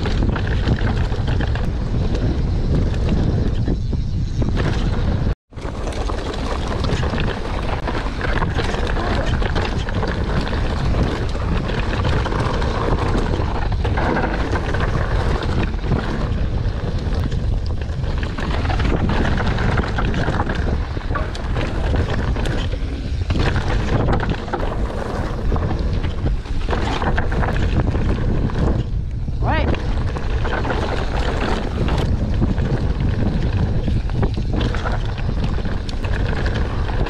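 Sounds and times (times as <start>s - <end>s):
bike knocking and clattering: 0.0s - 37.0s
bike tyre noise: 0.0s - 37.0s
wind on camera microphone: 0.0s - 37.0s.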